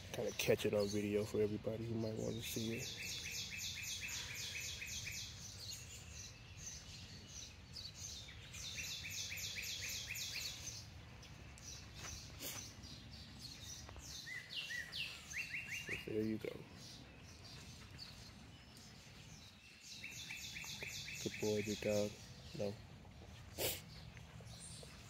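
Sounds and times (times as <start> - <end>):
songbird trilling: 0.0 - 11.0, 11.6 - 22.8.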